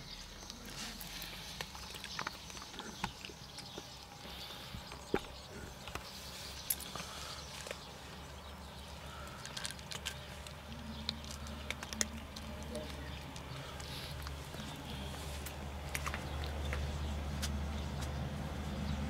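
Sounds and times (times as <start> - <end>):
cats crunching dry kibble: 0.0 - 18.6
low steady hum: 0.0 - 19.0.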